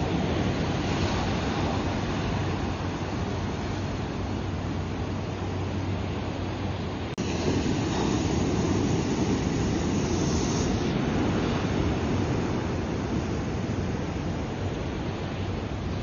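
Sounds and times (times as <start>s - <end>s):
waves washing over rocks: 0.0s - 4.8s, 7.2s - 16.0s.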